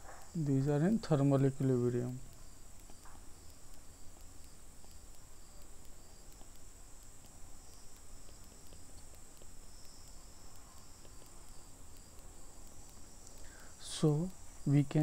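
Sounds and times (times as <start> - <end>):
faint ticks: 0.0 - 15.0
crickets trilling: 0.1 - 15.0.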